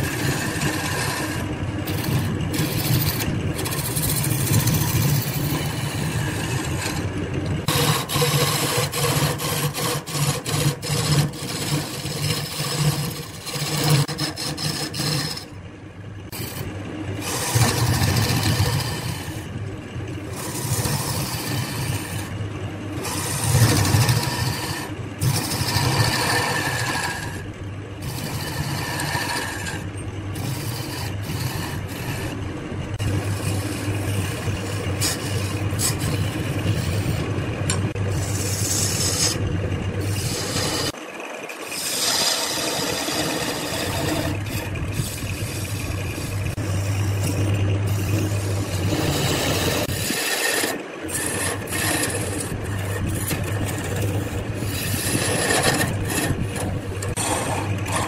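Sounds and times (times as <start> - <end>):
turning tool cutting wood: 0.0 - 58.0
wood lathe humming: 0.0 - 58.0.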